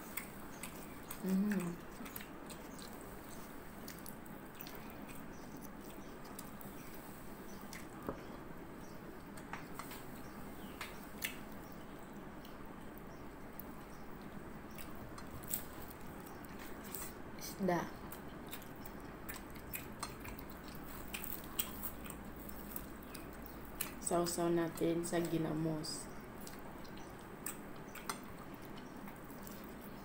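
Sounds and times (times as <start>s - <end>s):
chewing: 0.0s - 24.4s, 26.1s - 30.0s
steady background hiss: 0.0s - 30.0s.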